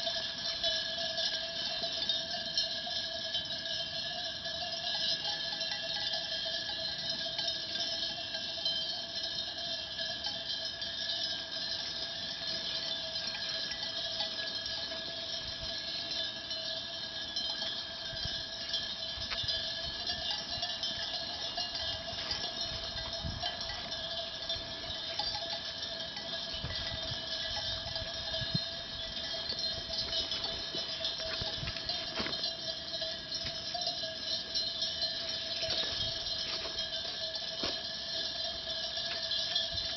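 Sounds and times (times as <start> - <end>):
sheep bells clanking and jingling: 0.0 - 39.9.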